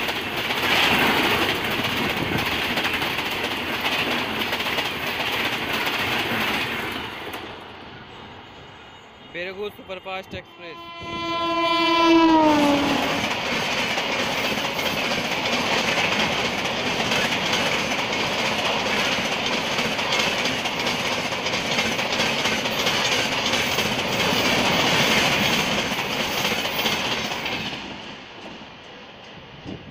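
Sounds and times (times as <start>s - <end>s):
train wheels rushing on rails: 0.0s - 29.9s.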